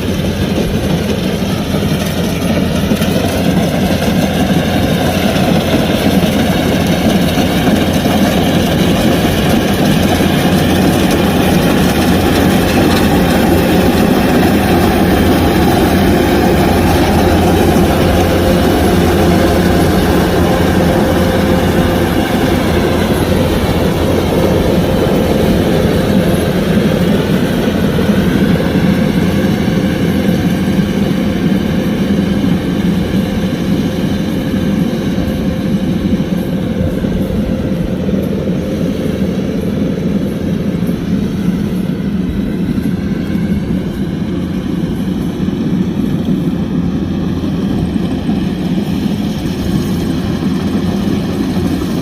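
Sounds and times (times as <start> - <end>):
combine harvester engine droning: 0.0 - 52.0.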